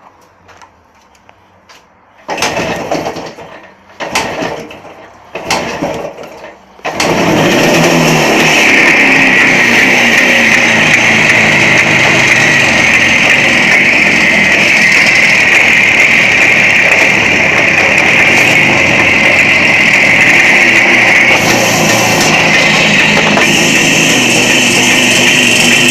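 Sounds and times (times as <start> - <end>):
motorcycle engine starting and running: 2.2 - 25.9.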